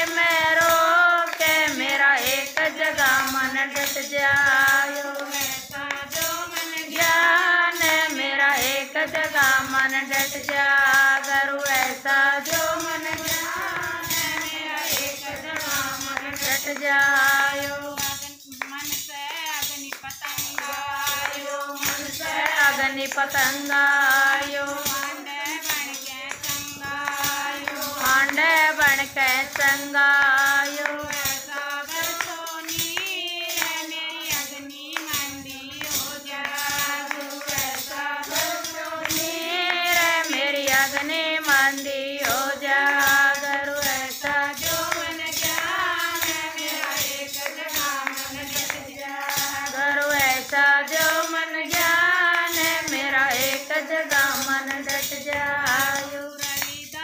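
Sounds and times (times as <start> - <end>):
rhythmic jingle of clapper: 0.0 - 57.0
woman singing: 0.0 - 57.0.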